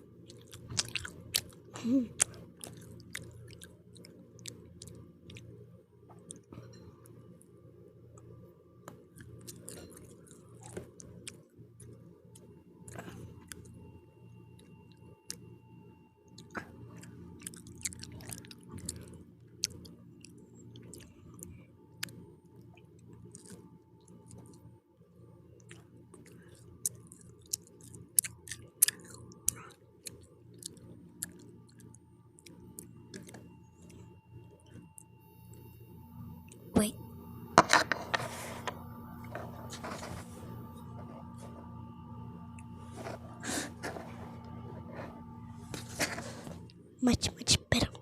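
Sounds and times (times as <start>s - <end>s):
steady low hum: 0.0s - 48.0s
pizza chewing with crunches: 0.2s - 6.8s, 8.9s - 15.5s, 16.3s - 24.7s, 25.6s - 35.7s, 37.6s - 41.8s, 42.5s - 46.8s.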